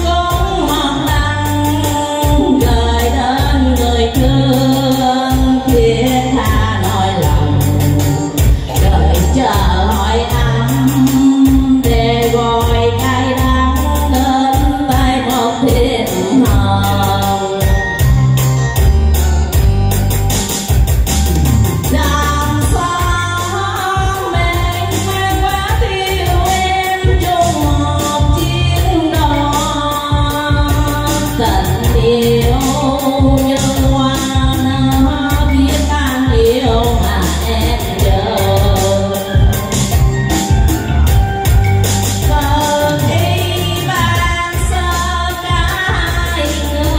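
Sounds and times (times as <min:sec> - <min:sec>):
woman singing into a microphone: 0:00.0 - 0:18.6, 0:21.8 - 0:40.6, 0:41.5 - 0:46.9
backing music with beat and bass: 0:00.0 - 0:46.9.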